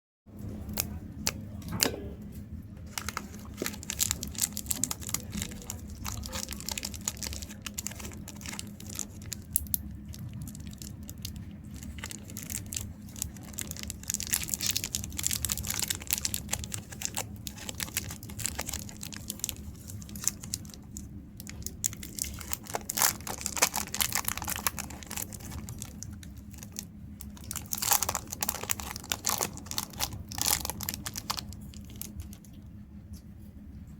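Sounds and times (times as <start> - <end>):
steady low hum: 0.3 - 33.9
wrappers crinkling and tearing: 2.8 - 32.5.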